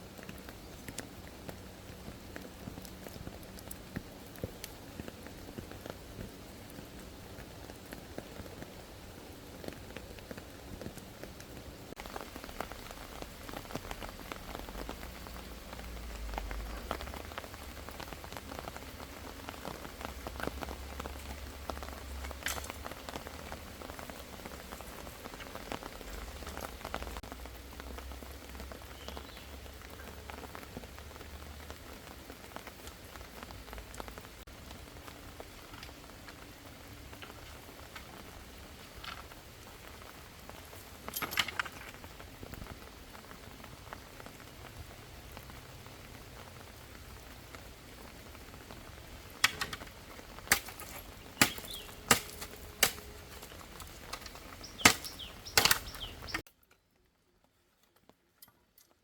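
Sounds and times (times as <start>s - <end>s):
heavy rain falling: 0.0s - 56.5s.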